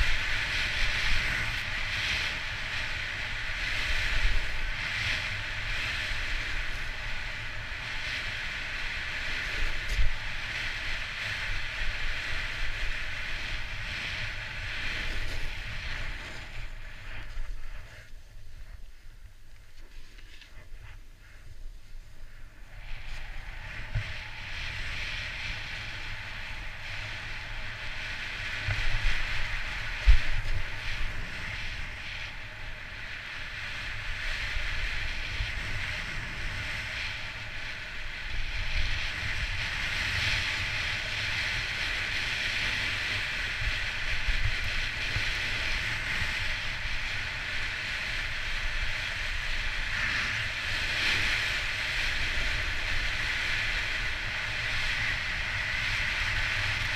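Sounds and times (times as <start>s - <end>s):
snowboard scraping on snow: 0.0s - 19.0s, 19.6s - 56.9s
wind buffeting microphone: 0.0s - 56.9s.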